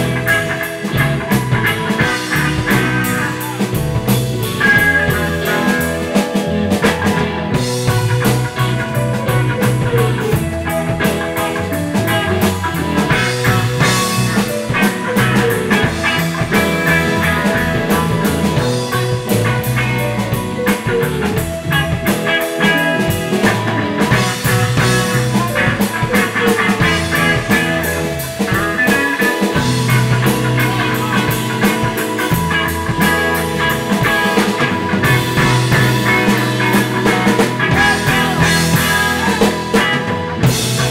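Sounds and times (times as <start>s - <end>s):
drum kit steady beat: 0.0s - 40.9s
electric bass: 0.0s - 40.9s
electric guitar: 0.0s - 40.9s.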